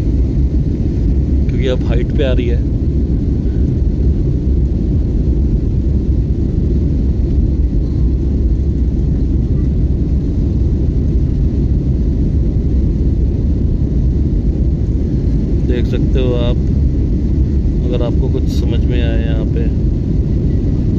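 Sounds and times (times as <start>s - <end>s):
jet cabin engine noise: 0.0s - 20.9s.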